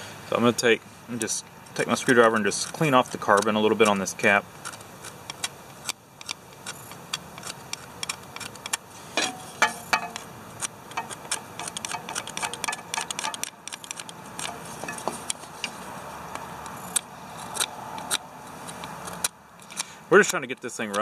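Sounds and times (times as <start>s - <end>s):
screwdriver scraping and clicking on metal: 1.7s - 21.0s.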